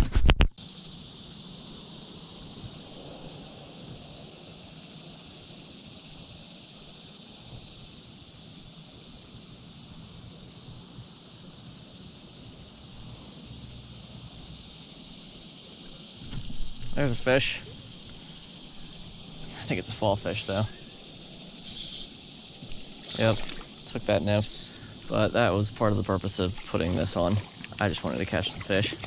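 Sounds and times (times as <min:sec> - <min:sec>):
insect chorus buzzing: 0:00.0 - 0:29.0.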